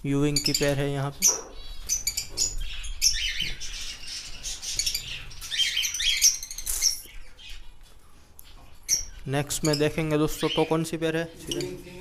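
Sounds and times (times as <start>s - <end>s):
lovebirds chirping and squawking: 0.1s - 12.0s.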